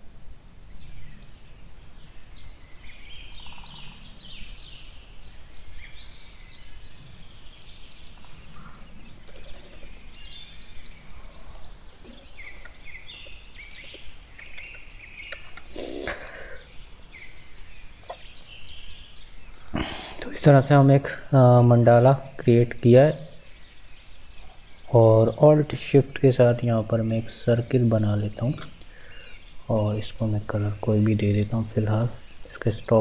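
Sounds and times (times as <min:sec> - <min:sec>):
birds chirping: 0:00.0 - 0:33.0
low steady background noise: 0:00.0 - 0:33.0.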